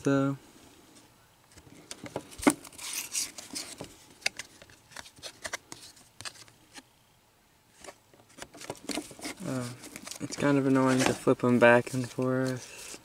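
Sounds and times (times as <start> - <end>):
cards sliding and rubbing: 1.5 - 6.8, 7.7 - 13.0.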